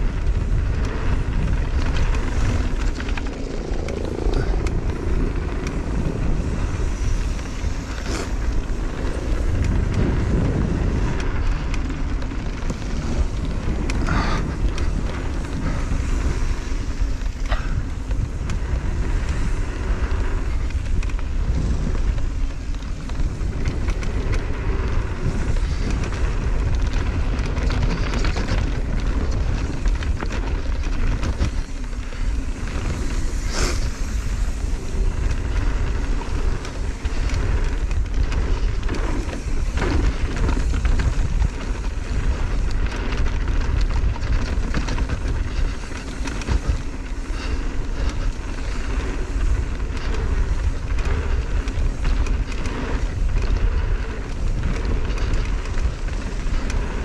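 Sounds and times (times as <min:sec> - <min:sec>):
bike rattling over bumps: 0:00.0 - 0:57.0
bike tyres rolling on dirt: 0:00.0 - 0:57.0
wind rushing over microphone: 0:00.0 - 0:57.0.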